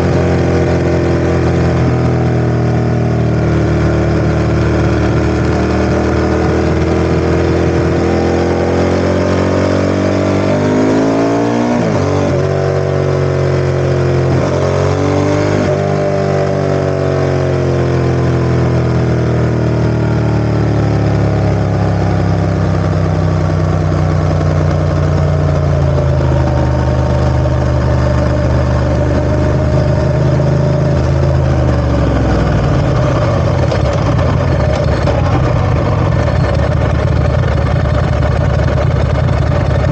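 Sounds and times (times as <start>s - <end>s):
motorcycle engine running under load: 0.0s - 39.9s.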